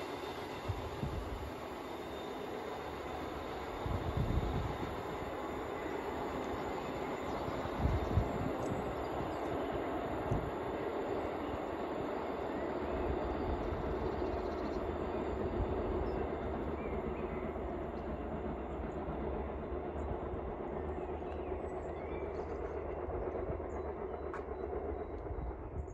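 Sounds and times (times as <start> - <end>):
train rumbling on the line: 0.0 - 25.9.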